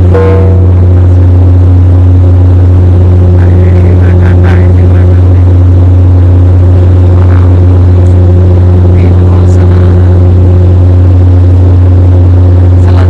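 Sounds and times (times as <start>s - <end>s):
propeller plane cabin drone: 0.0s - 13.0s.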